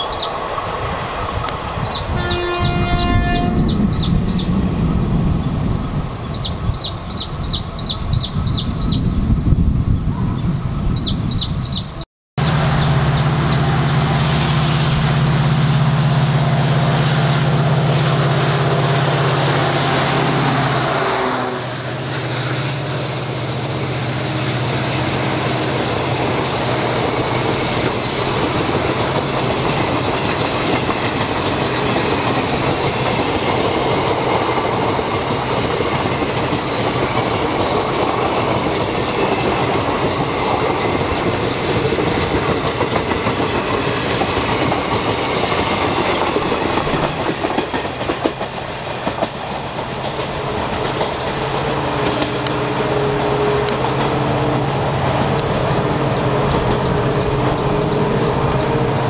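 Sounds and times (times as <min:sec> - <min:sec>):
train rumbling on tracks: 0:00.0 - 0:59.0.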